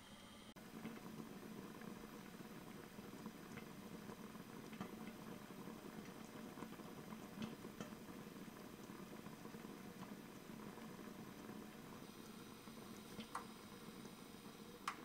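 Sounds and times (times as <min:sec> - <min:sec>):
broth simmering and bubbling: 0:00.5 - 0:15.0.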